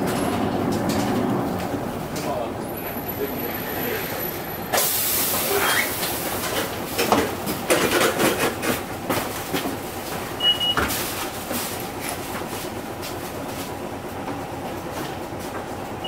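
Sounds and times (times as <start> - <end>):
bus body clatter and knocks: 0.0 - 2.5, 4.8 - 15.9
bus running rumble: 0.0 - 16.0.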